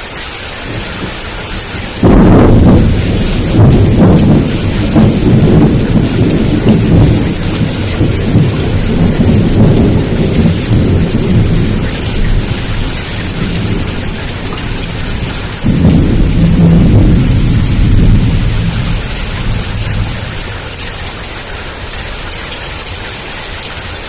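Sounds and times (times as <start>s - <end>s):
thunder rumbling: 0.0s - 23.2s
heavy rain hissing: 0.0s - 24.0s.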